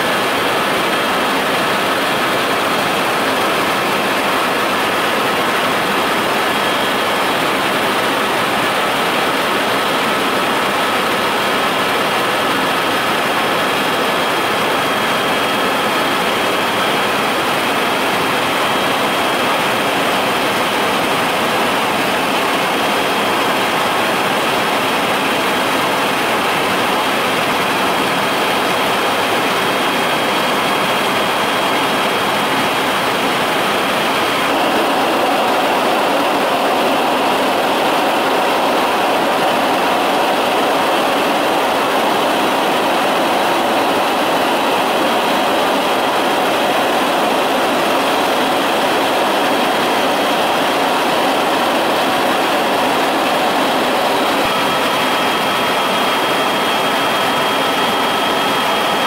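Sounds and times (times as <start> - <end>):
loud engine drone: 0.0 - 59.0.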